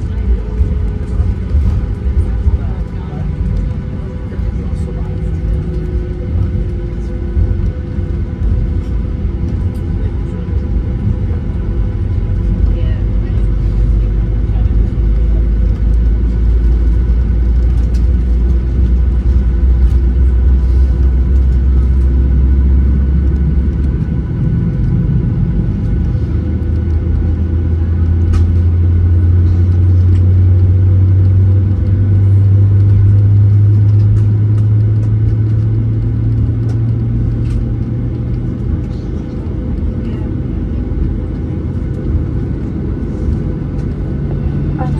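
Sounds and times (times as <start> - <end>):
aircraft engines droning: 0.0 - 44.9
deep rumble of airframe rolling: 0.0 - 44.9.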